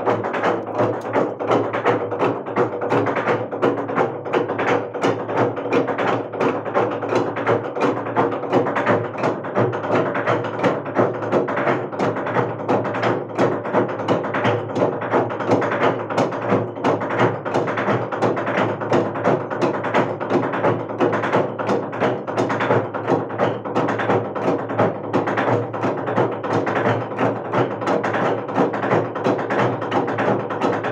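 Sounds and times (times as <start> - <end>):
log drum struck with wooden beaters: 0.0 - 30.9.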